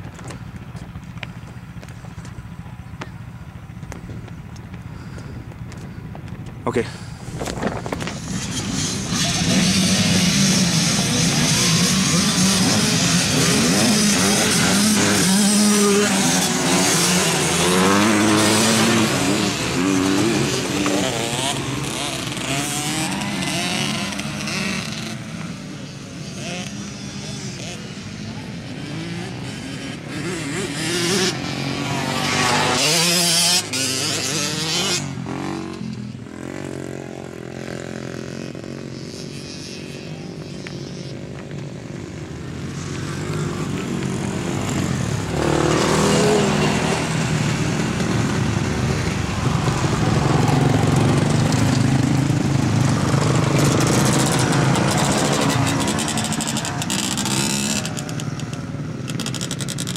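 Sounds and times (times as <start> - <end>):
mini bike engines revving: 0.0 - 59.9.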